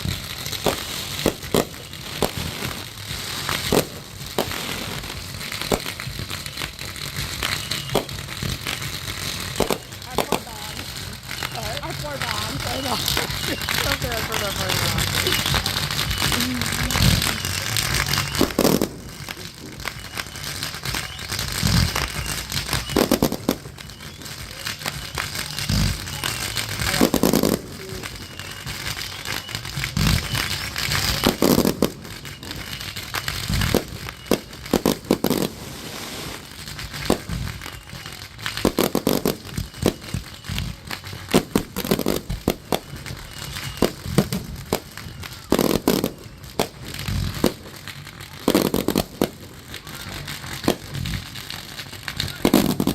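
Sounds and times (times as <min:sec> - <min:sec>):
firework bangs: 0:00.0 - 0:52.9
firework crackling: 0:00.0 - 0:52.9.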